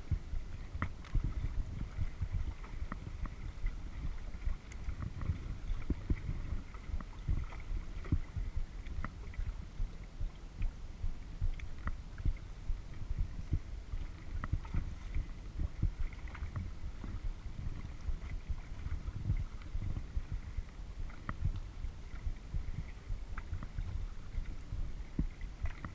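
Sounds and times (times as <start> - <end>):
low rumble with soft knocks: 0.0 - 25.9
water drips and splashes: 0.1 - 25.9.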